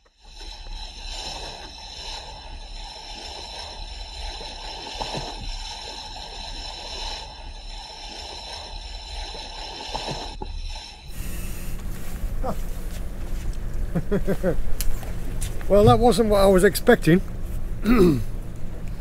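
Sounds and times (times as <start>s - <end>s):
steady low rumble: 0.0s - 19.0s
water splashing along boat hull: 0.1s - 13.9s, 14.6s - 17.7s.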